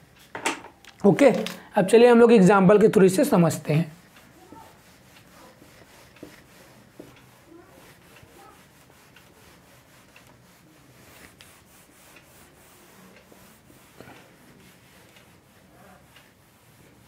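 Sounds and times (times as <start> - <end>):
cloth rubbing on whiteboard: 3.3 - 17.0.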